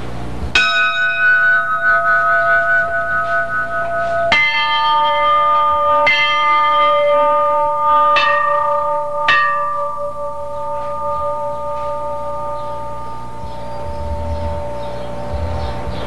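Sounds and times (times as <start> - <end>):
large bell ringing: 0.0 - 16.0.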